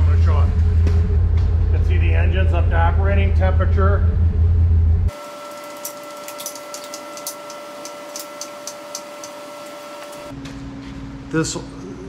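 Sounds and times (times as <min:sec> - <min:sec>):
steady hum with high whines: 0:00.0 - 0:12.0.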